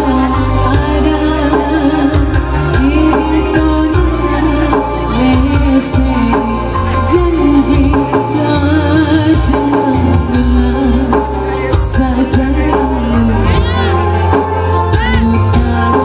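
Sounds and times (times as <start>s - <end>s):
bass line: 0.0s - 16.0s
person singing: 0.0s - 16.0s.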